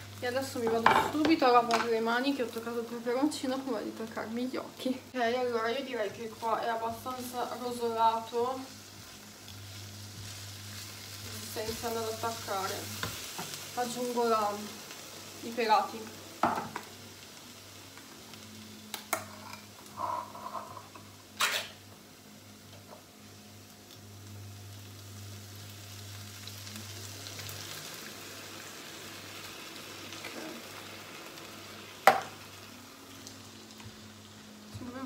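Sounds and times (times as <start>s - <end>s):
frying pan sizzling: 0.0s - 35.0s.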